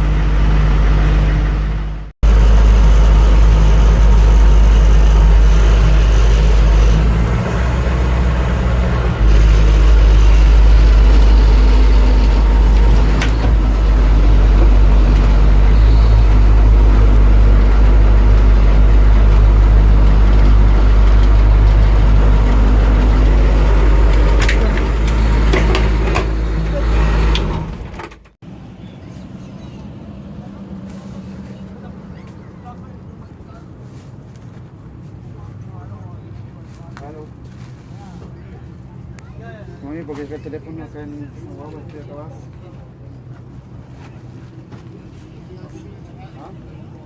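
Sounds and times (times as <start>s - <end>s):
diesel engine rumbling: 0.0s - 47.0s.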